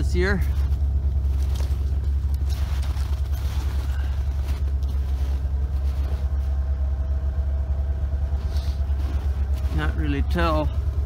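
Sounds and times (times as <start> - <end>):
footsteps crunching in snow: 0.0 - 7.3, 8.3 - 10.9
snowmobile engine idling: 0.0 - 11.0.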